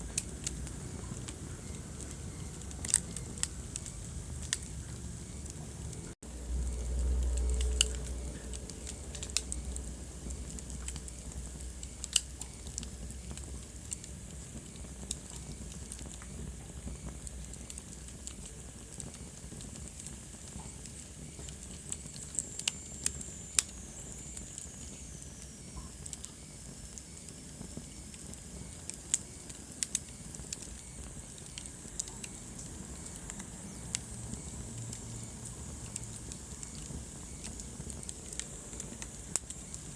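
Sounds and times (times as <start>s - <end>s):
fire popping: 0.0s - 39.9s
flames rumbling and hissing: 0.0s - 39.9s
wood fire crackling: 0.0s - 39.9s.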